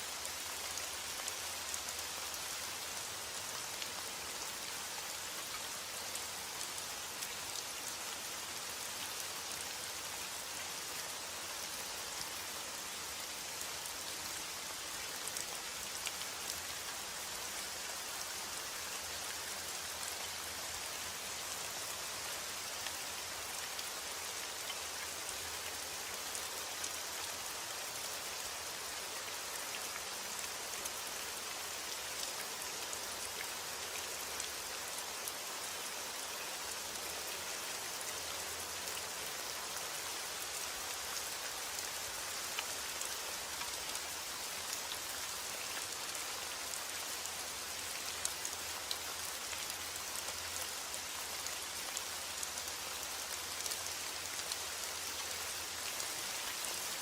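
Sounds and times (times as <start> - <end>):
rain drops ticking on surface: 0.0 - 57.0
rain hiss: 0.0 - 57.0.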